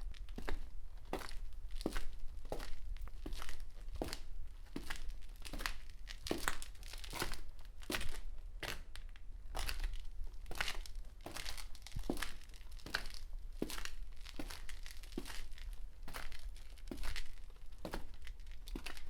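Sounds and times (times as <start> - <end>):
footsteps scuffing: 0.2 - 8.9, 9.6 - 19.0.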